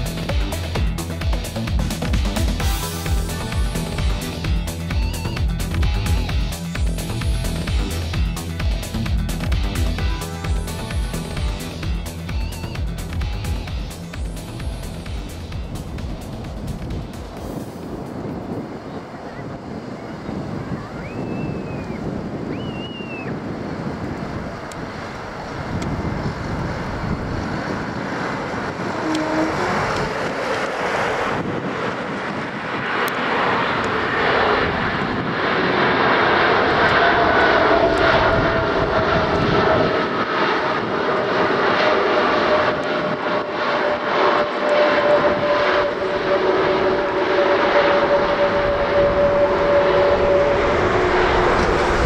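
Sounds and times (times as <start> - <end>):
engine whine sliding down: 0.0 - 18.8, 21.0 - 52.0
jet engine rumble: 0.0 - 52.0.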